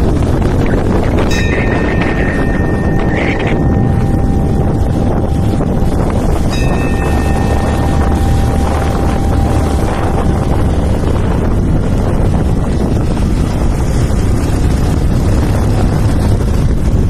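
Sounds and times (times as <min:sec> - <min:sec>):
road and engine rumble: 0:00.0 - 0:17.0
wind on microphone: 0:00.0 - 0:17.0.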